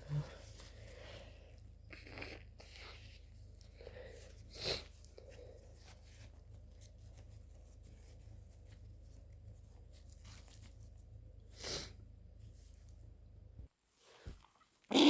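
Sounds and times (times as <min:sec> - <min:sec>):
faint rustling: 0:00.0 - 0:14.8.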